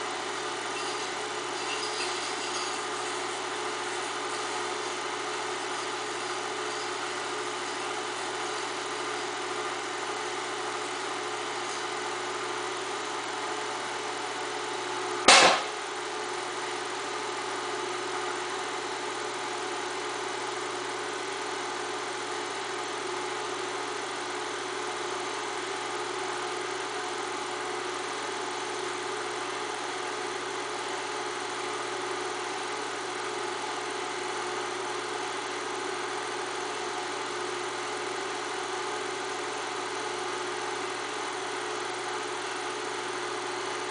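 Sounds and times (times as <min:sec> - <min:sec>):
film projector whirring: 0:00.0 - 0:43.9.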